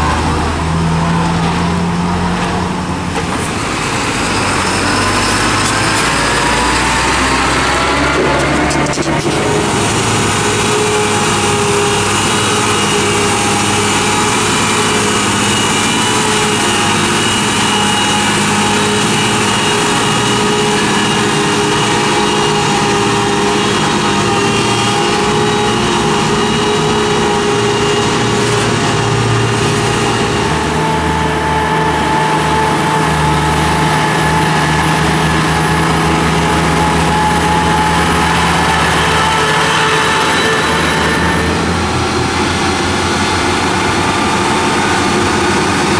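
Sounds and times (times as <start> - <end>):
truck diesel engine running: 0.0 - 45.9.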